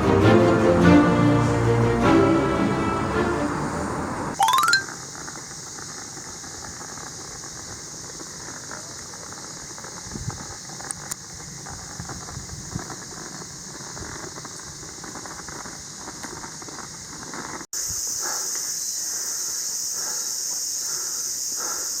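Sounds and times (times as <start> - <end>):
high-pitched hiss: 0.0 - 22.0.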